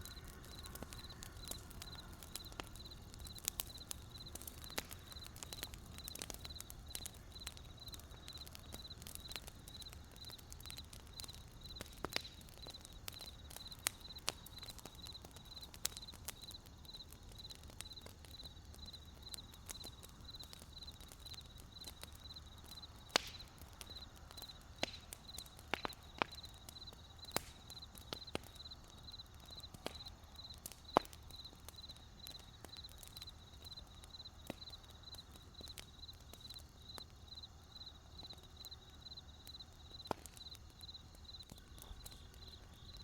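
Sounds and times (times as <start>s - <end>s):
campfire crackling and popping: 0.0s - 43.0s
cricket chirping: 0.0s - 43.0s.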